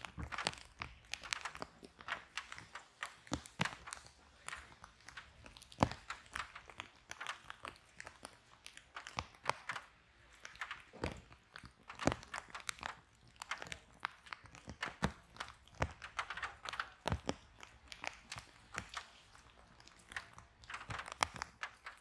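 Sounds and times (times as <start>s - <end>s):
fire popping: 0.0s - 22.0s
fireplace fire crackling: 0.0s - 22.0s.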